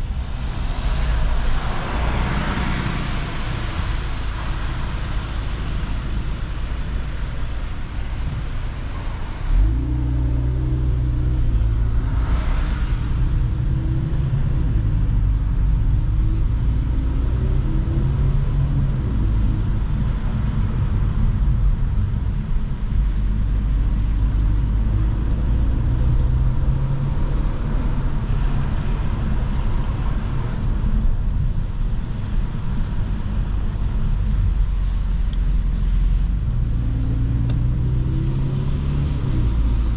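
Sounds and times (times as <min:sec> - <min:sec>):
car engine and exhaust driving: 0:00.0 - 0:39.9
road noise: 0:00.0 - 0:39.9.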